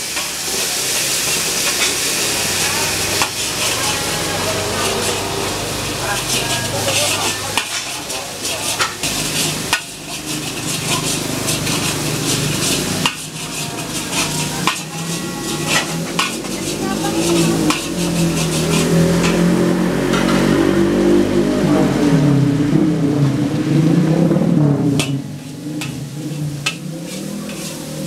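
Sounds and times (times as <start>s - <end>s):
metal spatula scraping a wok: 0.0s - 21.0s, 24.8s - 28.0s
paste sizzling in hot oil: 0.0s - 21.2s, 24.9s - 28.0s.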